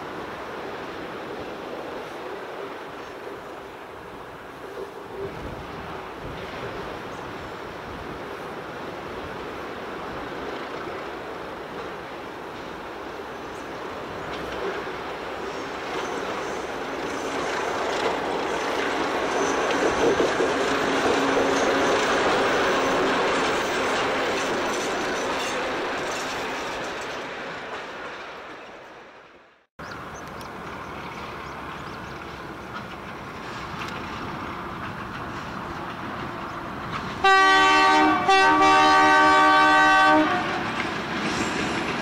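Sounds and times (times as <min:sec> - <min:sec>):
diesel locomotive engine: 0:00.0 - 0:42.0
train wheels on rails: 0:00.0 - 0:42.0.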